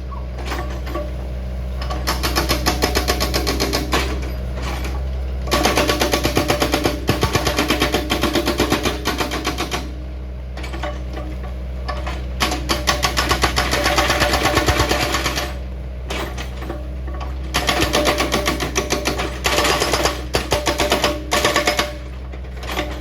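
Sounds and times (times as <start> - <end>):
excavator engine running: 0.0 - 23.0
hydraulic rock breaker hammering rock: 0.1 - 23.0.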